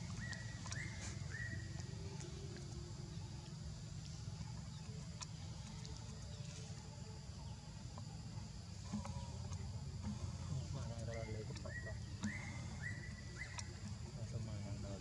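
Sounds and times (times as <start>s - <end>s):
faint high chirps: 0.1s - 15.0s.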